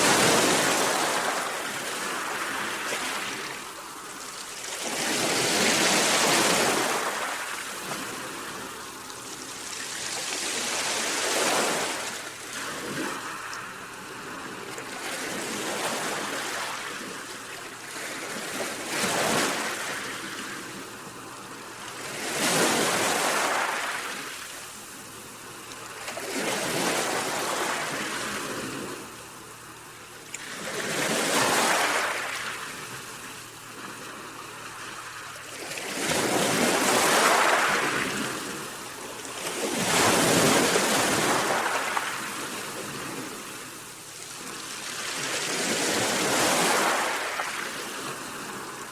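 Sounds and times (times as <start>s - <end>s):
sea waves breaking on shore: 0.0s - 48.9s.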